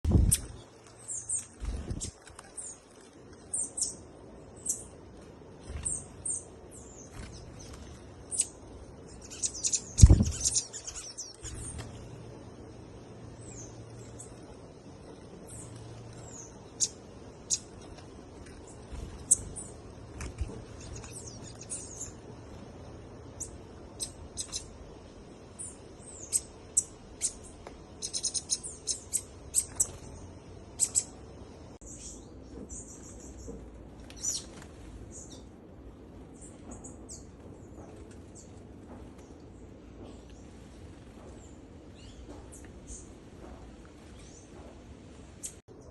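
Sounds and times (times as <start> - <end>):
small birds chirping: 0.1 - 35.6, 36.2 - 45.9
low background noise: 0.1 - 45.9.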